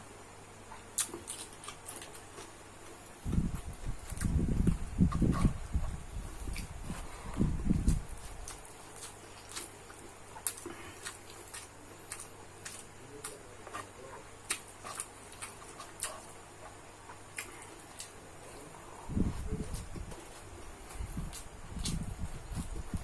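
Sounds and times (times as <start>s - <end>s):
sharp eating clicks: 0.7s - 23.0s.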